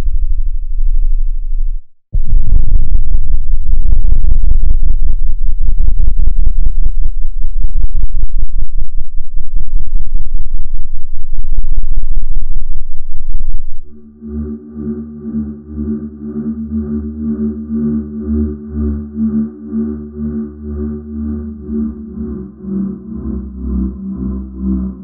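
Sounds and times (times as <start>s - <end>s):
pulsing low electronic rumble: 0.0s - 25.0s.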